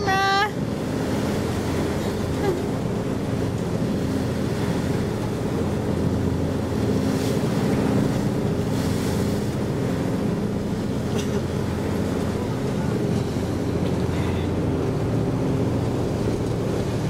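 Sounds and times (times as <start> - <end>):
boat engine running: 0.0 - 17.0
sea washing along hull: 0.0 - 17.0
water splashes: 0.0 - 17.0.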